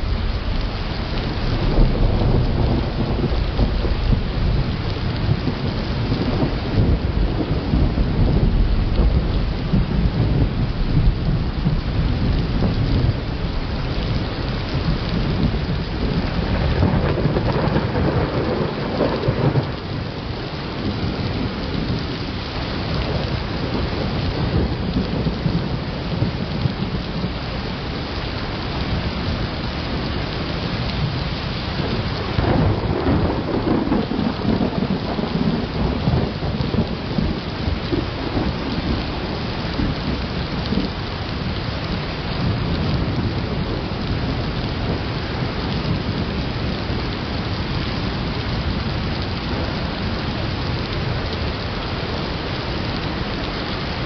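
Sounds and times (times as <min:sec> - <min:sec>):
low rolling thunder: 0:00.0 - 0:54.0
steady rain: 0:00.0 - 0:54.0.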